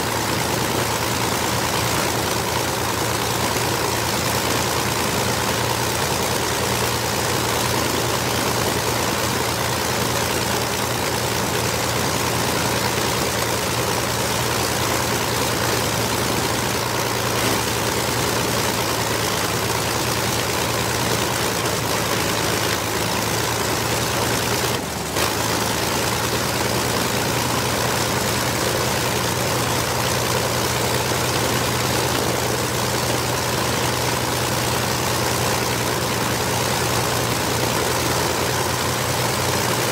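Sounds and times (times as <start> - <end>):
propeller aircraft engines running: 0.0 - 39.9.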